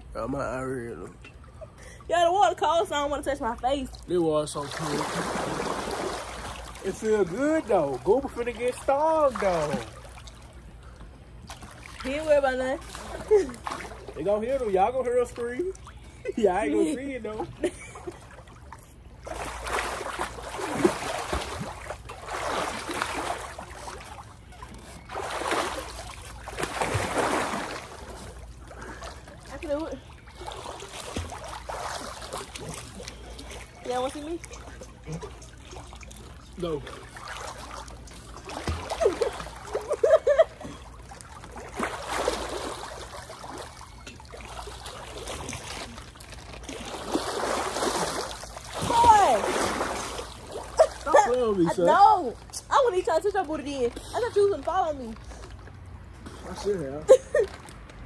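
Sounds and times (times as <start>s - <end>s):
water splashing from swimmer: 1.5s - 58.0s.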